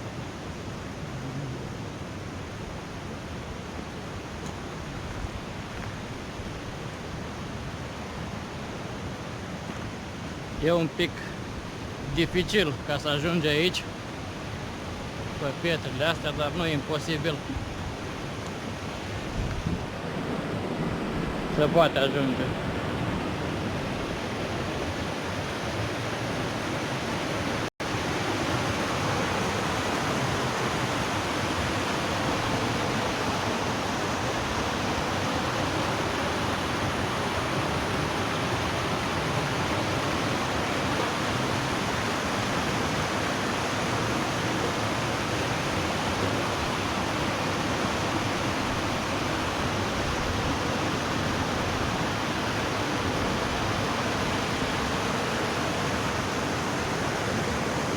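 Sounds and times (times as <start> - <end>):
waterfall rushing: 10.2 - 19.3, 19.9 - 57.9.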